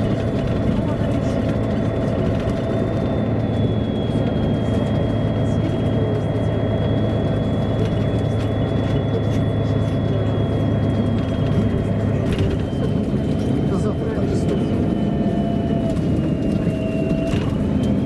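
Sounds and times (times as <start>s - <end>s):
diesel bus engine hum: 0.0s - 18.0s.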